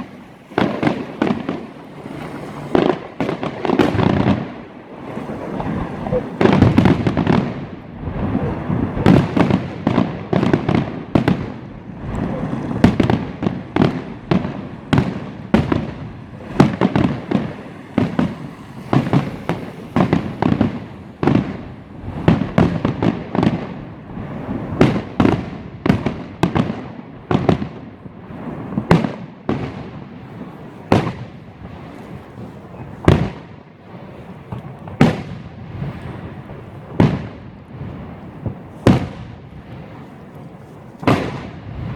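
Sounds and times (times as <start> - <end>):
distant explosions rumbling: 0.0 - 41.9
fireworks bangs: 0.0 - 41.9.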